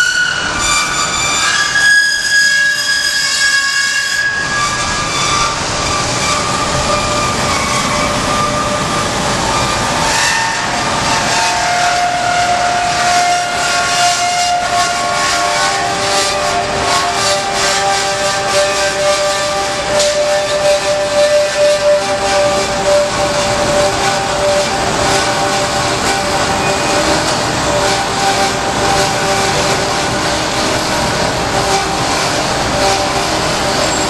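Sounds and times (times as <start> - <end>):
band saw cutting steel: 0.0 - 34.0
high ringing squeals: 0.0 - 34.0.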